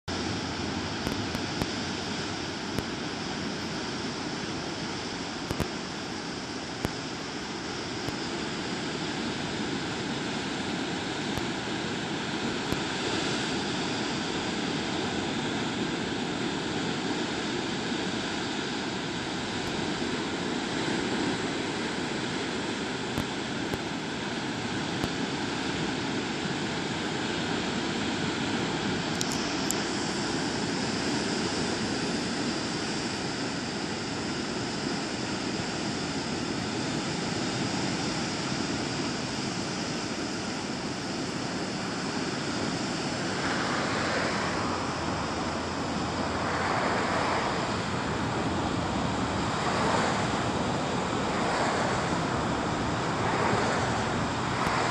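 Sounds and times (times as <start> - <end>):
surf washing over rocks: 0.1 - 54.9.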